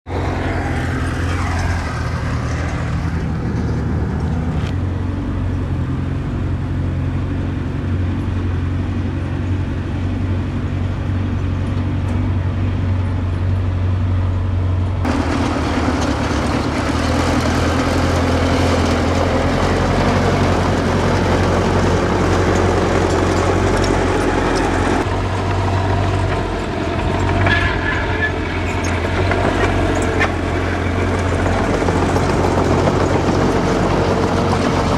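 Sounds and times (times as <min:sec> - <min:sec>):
diesel engine of earthmoving machine: 0:00.1 - 0:34.9.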